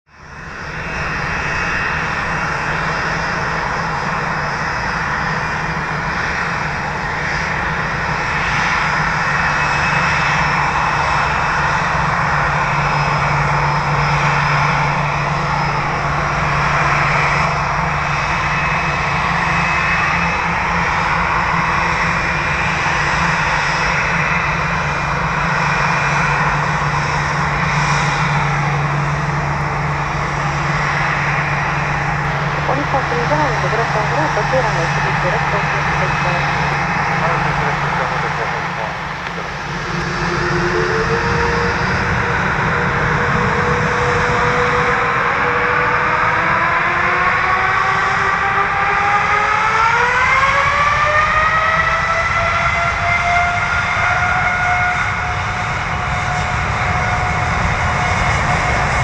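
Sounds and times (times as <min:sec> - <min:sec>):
jet engines running: 0:00.1 - 0:59.0.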